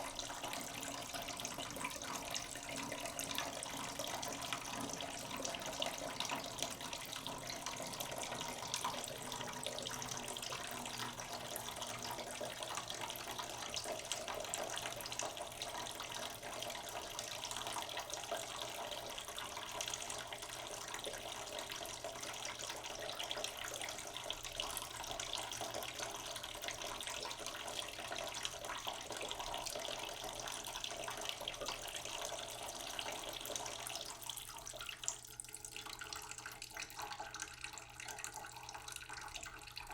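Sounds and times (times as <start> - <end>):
tap water filling a pot: 0.0 - 39.9.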